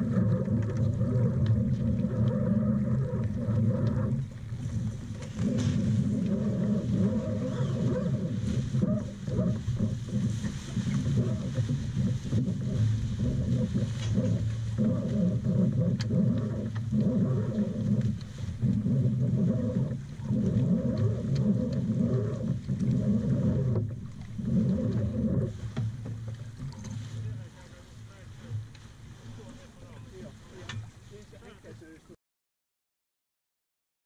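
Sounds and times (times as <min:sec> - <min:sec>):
wind buffeting microphone: 0:00.0 - 0:27.4.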